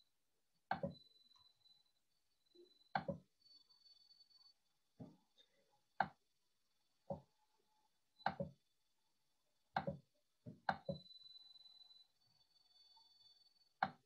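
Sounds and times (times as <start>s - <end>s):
faint high whine: 0.8s - 9.7s, 10.8s - 13.8s.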